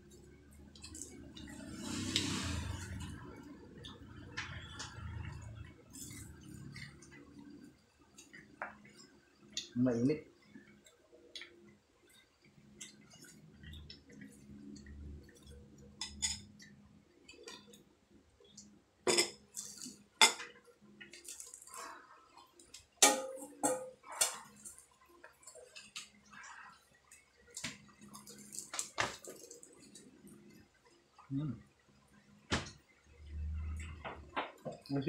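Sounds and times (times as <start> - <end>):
soft eating sounds: 0.0 - 35.0.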